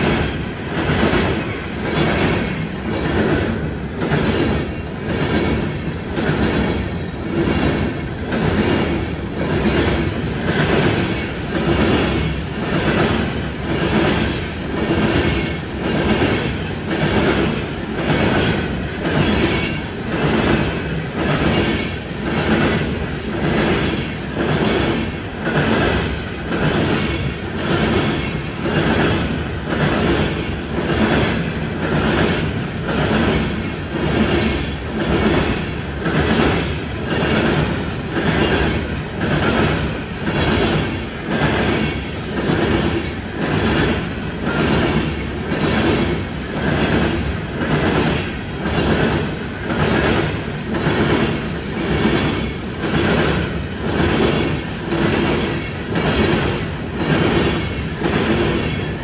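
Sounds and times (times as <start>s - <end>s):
train wheels clacking over rail joints: 0.0s - 59.0s.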